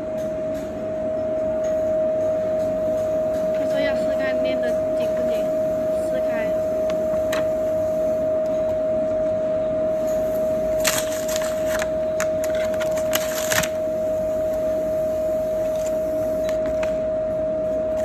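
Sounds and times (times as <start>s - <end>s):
sealing machine humming: 2.3s - 8.9s, 9.9s - 18.0s.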